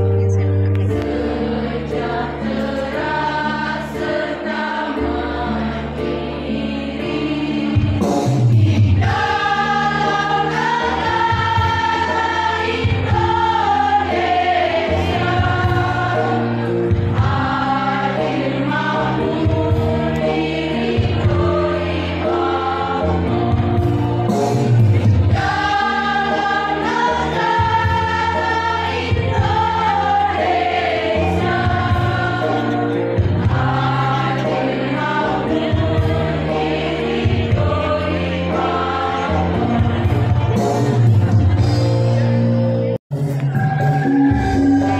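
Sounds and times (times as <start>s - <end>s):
women's choir singing a hymn: 0.0s - 41.9s.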